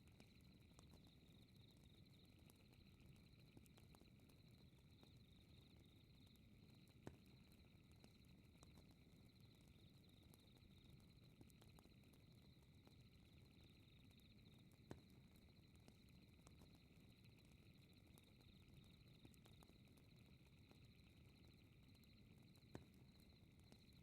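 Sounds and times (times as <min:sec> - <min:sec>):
night insects chirring: 0:00.2 - 0:24.0.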